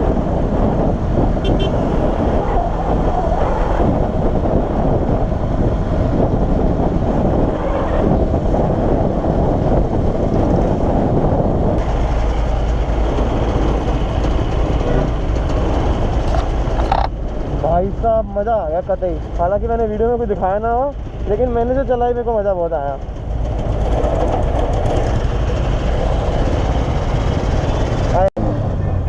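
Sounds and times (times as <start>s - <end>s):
motorcycle engine and wind noise: 0.0s - 29.0s.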